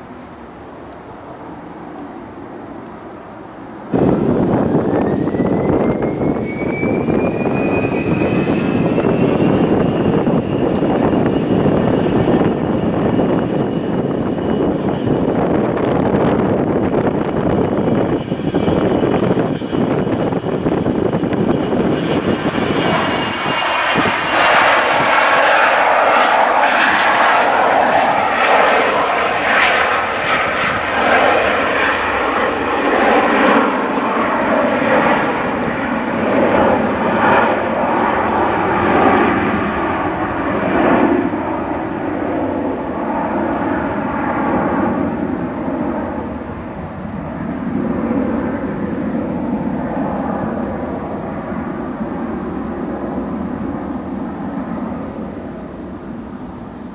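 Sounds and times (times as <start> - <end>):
jet roar with crackling flutter: 0.0 - 56.9
steady whine: 0.0 - 56.9.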